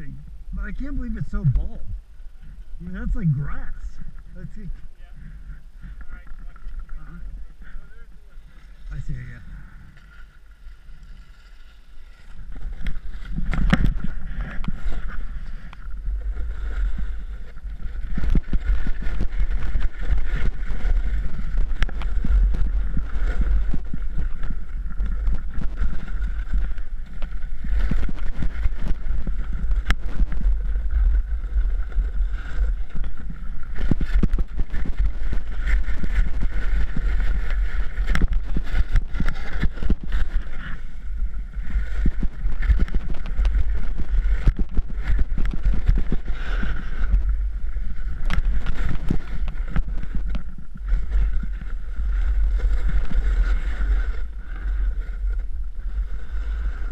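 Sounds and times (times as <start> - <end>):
wind rumbling on microphone: 0.0 - 56.9
snowboard sliding on snow: 8.2 - 56.9.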